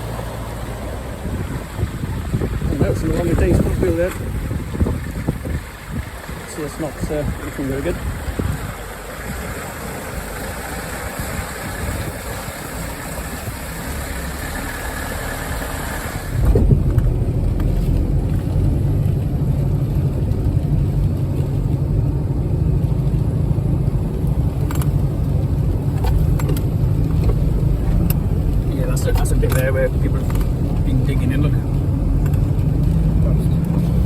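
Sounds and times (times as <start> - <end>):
deep engine rumble: 0.0 - 34.0
off-road vehicle engine and road noise: 0.0 - 34.0.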